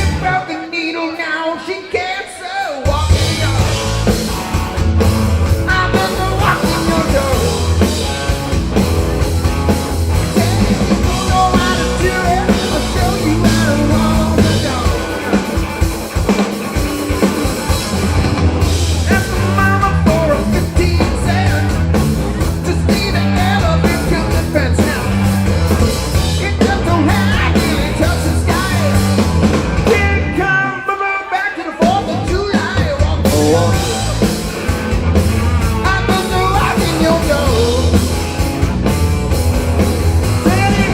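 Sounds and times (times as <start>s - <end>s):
drums: 0.0s - 40.9s
rock song singing: 0.0s - 40.9s
electric guitar: 2.9s - 30.7s, 31.8s - 40.9s.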